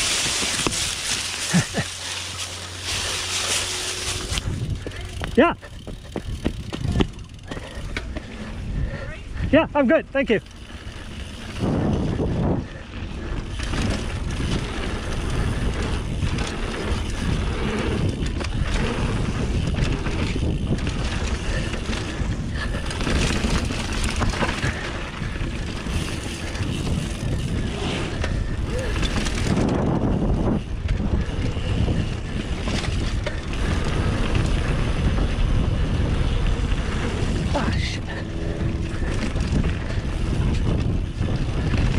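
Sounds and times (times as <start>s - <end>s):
tyres rolling on dirt and gravel: 0.0s - 9.0s, 10.1s - 41.9s
bike rattling over bumps: 0.0s - 41.9s
wind rushing over microphone: 0.0s - 41.9s.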